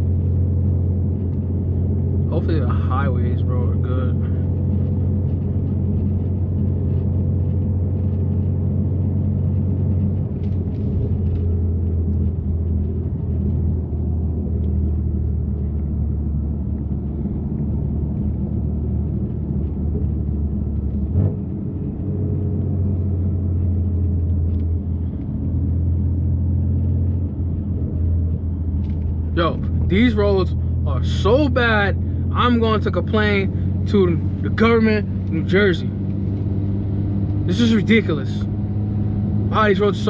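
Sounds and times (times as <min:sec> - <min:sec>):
car exhaust droning: 0:00.0 - 0:40.0.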